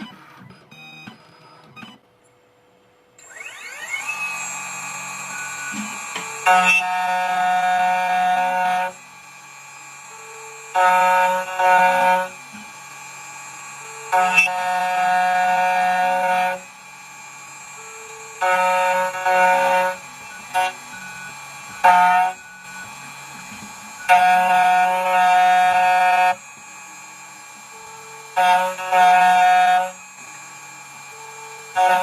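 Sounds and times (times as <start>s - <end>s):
low machine hum: 0.0s - 32.0s
key cutting machine whine: 3.0s - 32.0s.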